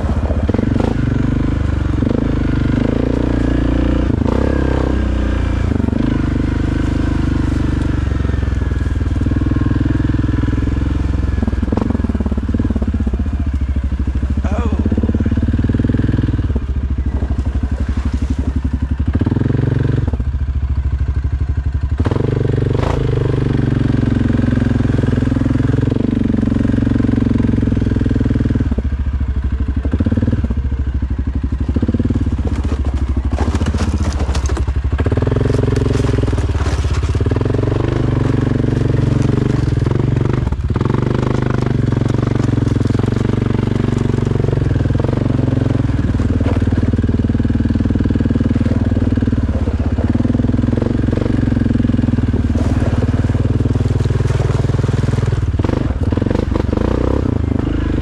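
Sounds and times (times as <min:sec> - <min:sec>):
exhaust clicks and crackles: 0:00.0 - 0:19.4, 0:28.6 - 0:58.0
engine revving through exhaust: 0:00.0 - 0:58.0.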